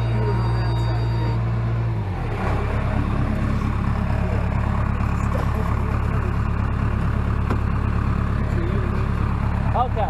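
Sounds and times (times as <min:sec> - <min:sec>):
tractor engine rumbling: 0:00.0 - 0:10.0.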